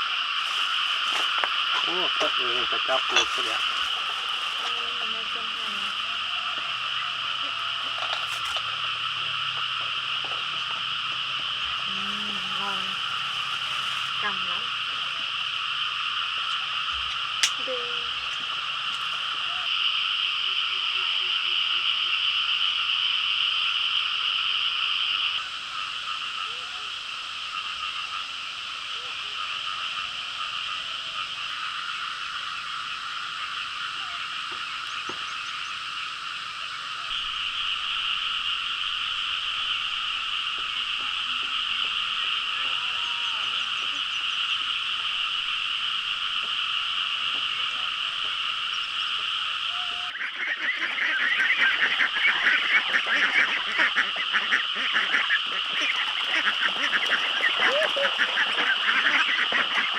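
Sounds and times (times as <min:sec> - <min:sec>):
chorus of frogs calling: 0:00.0 - 0:59.9.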